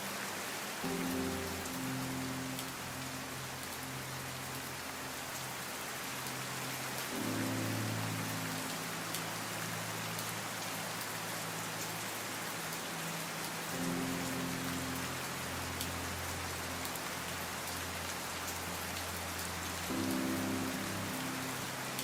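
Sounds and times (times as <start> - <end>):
steady rain falling: 0.0 - 22.0
soft low background music chords: 0.4 - 22.0
rain drop ticks: 0.8 - 22.0.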